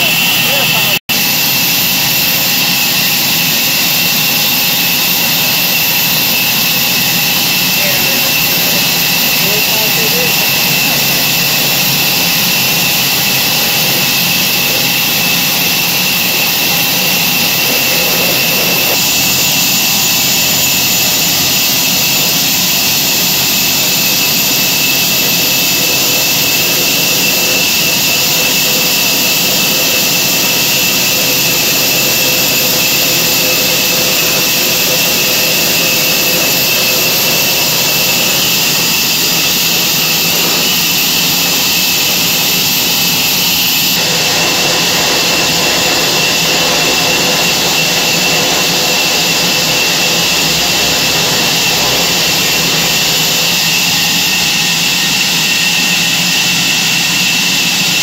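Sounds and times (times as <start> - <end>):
band saw whining: 0.0 - 58.0.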